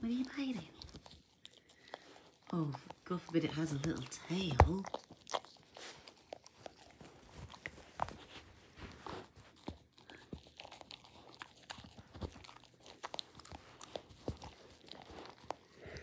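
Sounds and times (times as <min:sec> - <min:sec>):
dog chewing a toy: 0:00.0 - 0:16.0.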